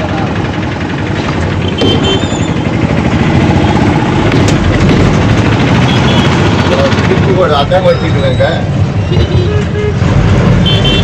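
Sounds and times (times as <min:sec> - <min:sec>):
diesel lorry engine rumbling: 0:00.0 - 0:11.0.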